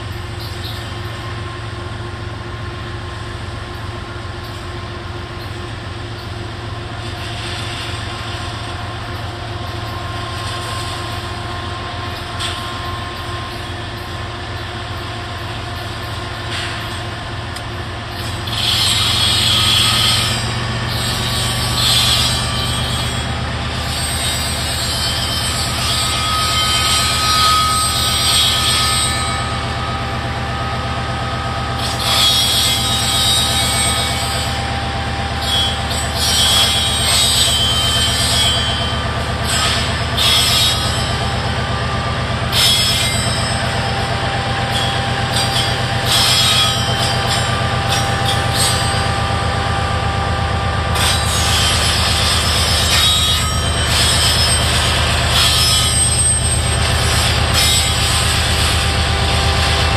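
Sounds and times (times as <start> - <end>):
diesel locomotive engine drone: 0.0 - 59.9
wheels squealing on rail: 0.0 - 59.9.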